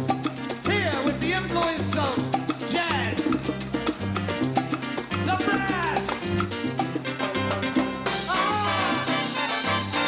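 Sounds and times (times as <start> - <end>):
salsa band playing: 0.0 - 10.0.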